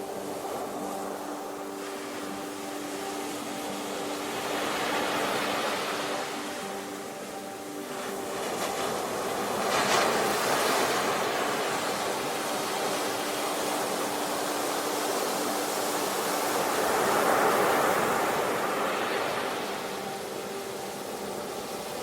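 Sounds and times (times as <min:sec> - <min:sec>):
ocean waves washing ashore: 0:00.0 - 0:22.0.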